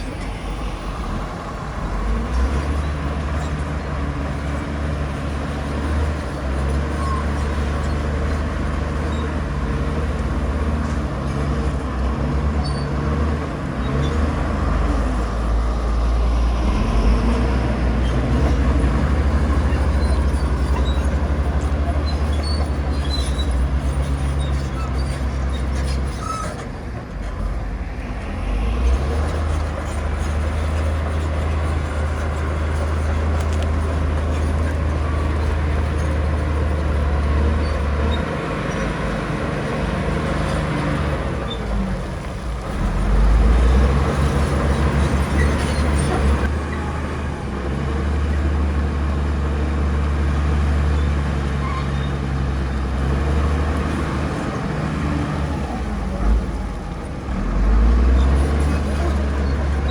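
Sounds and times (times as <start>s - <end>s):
diesel machinery engine rumble: 0.0s - 59.9s.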